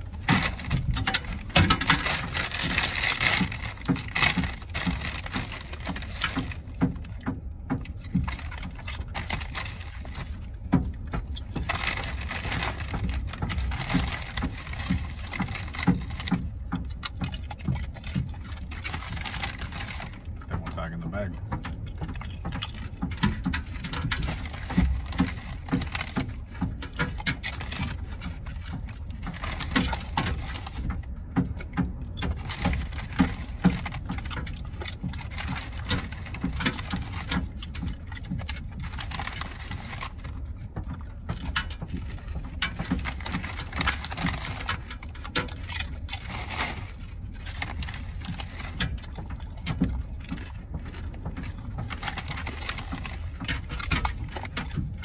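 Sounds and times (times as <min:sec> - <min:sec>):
crisp chip crunching: 0:00.0 - 0:20.8, 0:21.8 - 0:55.0
low steady rumble: 0:00.0 - 0:55.0.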